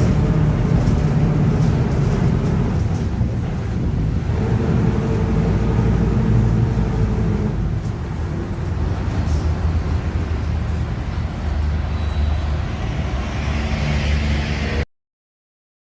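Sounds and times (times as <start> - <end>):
bus engine humming: 0.0 - 14.8.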